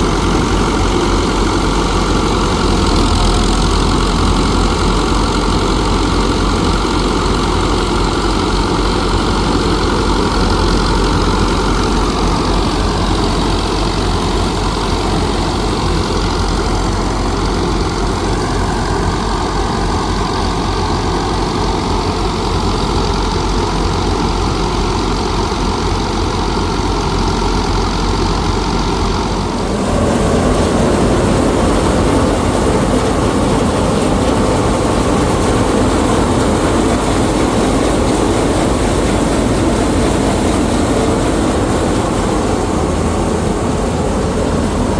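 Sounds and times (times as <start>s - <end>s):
heavy engine humming: 0.0s - 44.9s.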